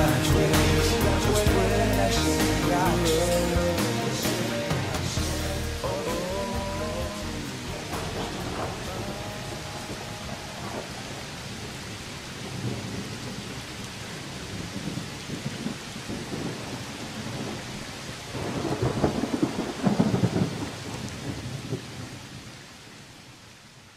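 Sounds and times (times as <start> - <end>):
thunder rumbling: 0.0 - 22.2
steady rain falling: 0.0 - 23.9.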